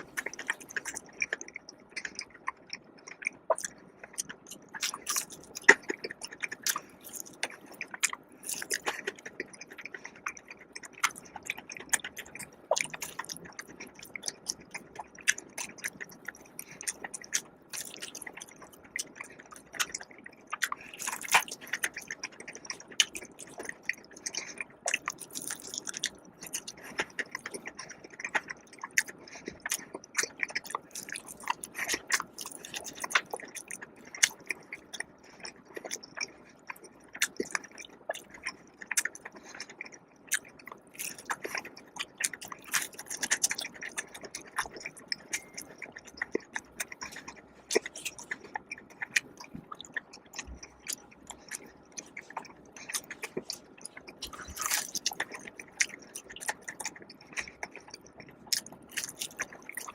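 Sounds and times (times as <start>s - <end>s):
chewing crispy fried food: 0.0s - 59.9s
wet mouth sounds: 0.0s - 59.9s.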